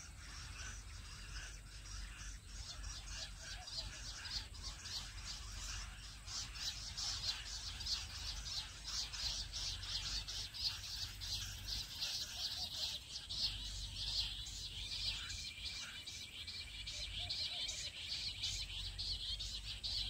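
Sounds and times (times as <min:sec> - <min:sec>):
quail high chirps: 0:00.0 - 0:20.0.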